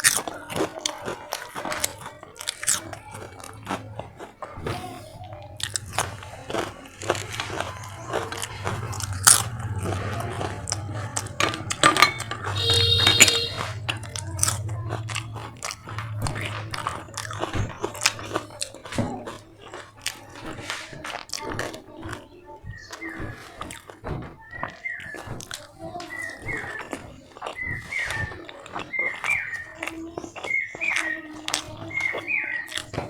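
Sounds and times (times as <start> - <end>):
crunchy bites and chewing: 0.0 - 33.0.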